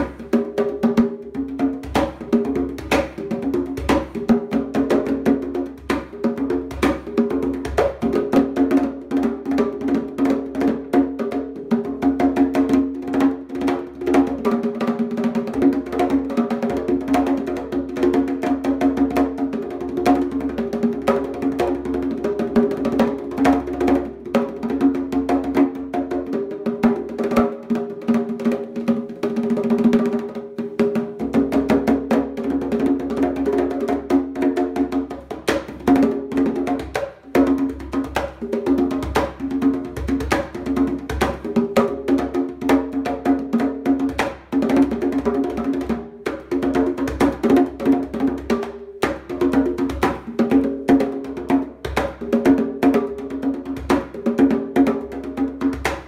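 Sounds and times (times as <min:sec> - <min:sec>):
conga drums played by hand: 0:00.0 - 0:56.0.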